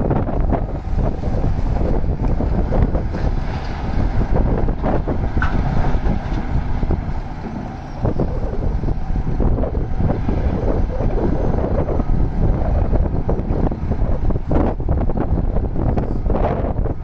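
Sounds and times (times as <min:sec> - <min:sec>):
excavator diesel engine running: 0:00.0 - 0:17.0
wind buffeting microphone: 0:00.0 - 0:17.0.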